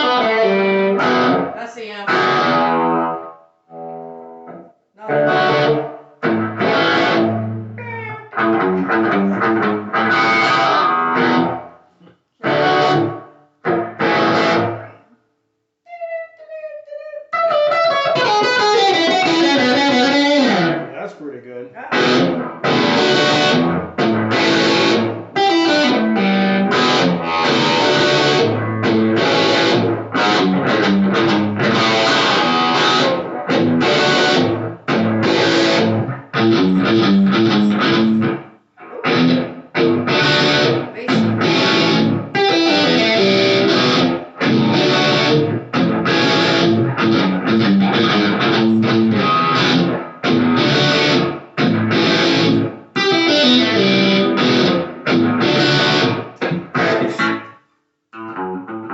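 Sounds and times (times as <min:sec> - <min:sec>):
electric guitar rock riffs: 0:00.0 - 0:11.8, 0:12.4 - 0:15.0, 0:17.4 - 0:20.9, 0:21.9 - 0:57.6, 0:58.2 - 0:58.9.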